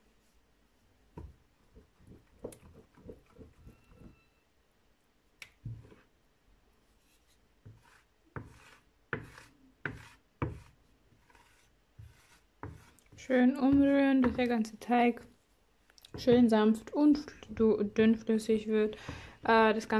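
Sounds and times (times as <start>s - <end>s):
wooden spoon stirring batter: 1.0s - 4.3s, 5.6s - 6.2s, 6.9s - 19.9s.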